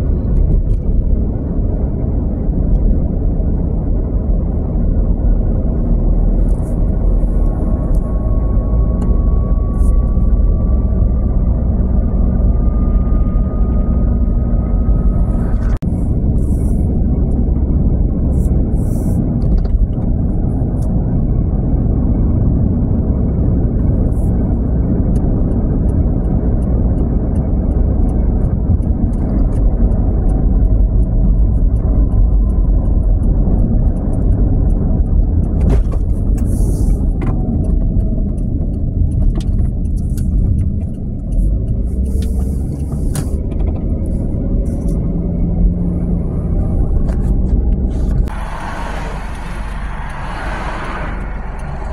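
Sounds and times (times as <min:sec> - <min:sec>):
car interior road rumble: 0:00.0 - 0:51.9.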